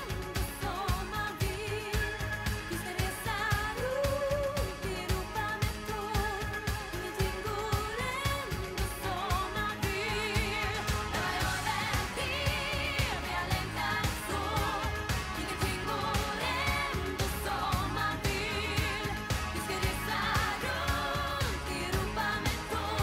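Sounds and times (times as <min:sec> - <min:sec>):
drum beat and bass: 0:00.0 - 0:23.0
woman singing with vibrato: 0:00.0 - 0:23.0.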